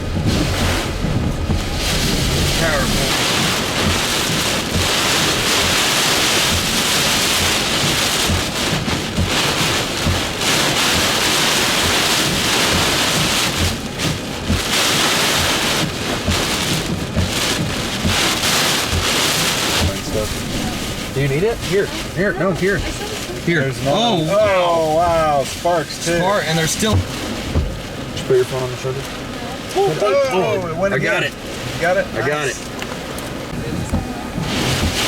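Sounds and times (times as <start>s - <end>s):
wind buffeting microphone: 0.0s - 28.2s, 29.0s - 35.0s
hurricane wind and heavy rain: 0.0s - 35.0s.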